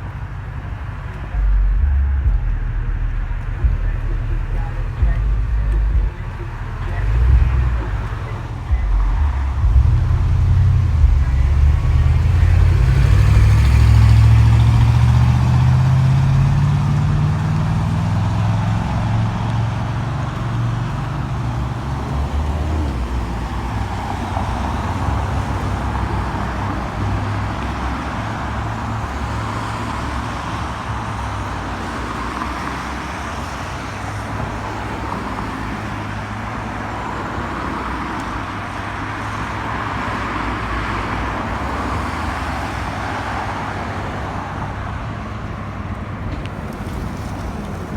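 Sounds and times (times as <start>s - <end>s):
heavy vehicle engine rumble: 0.0s - 47.9s
passing traffic: 0.0s - 47.9s.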